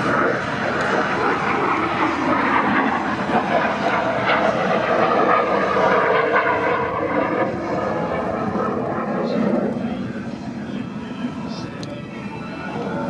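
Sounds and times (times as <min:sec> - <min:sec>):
jet aircraft engine rushing: 0:00.0 - 0:13.0.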